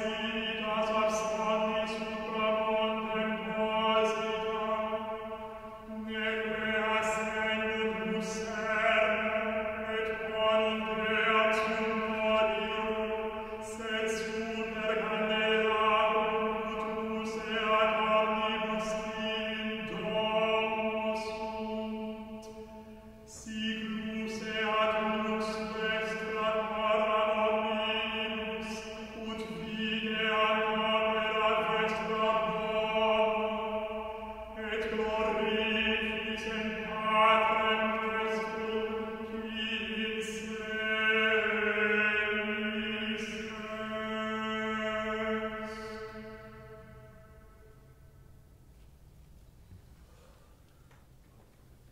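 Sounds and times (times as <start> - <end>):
choir holding long notes: 0.0 - 47.7.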